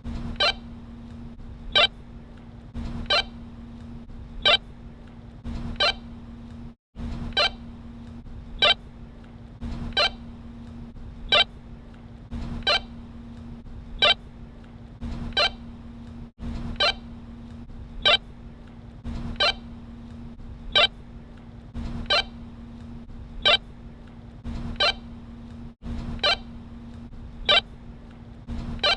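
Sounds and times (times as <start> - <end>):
low hum: 0.0 - 28.9.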